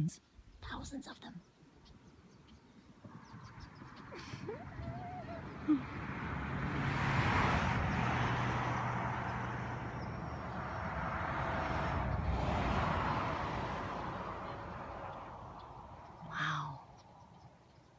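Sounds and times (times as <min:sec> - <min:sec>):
road vehicles passing: 0:01.8 - 0:17.9.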